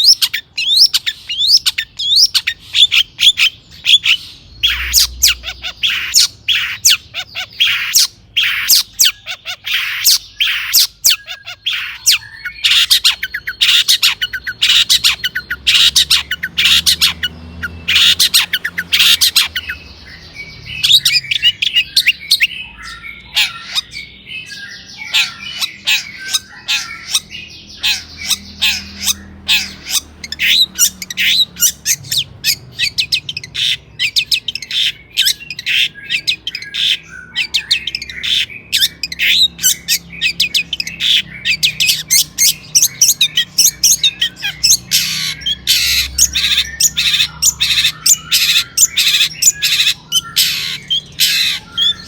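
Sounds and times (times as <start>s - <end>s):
bird singing harsh chattering song: 0.0s - 52.0s.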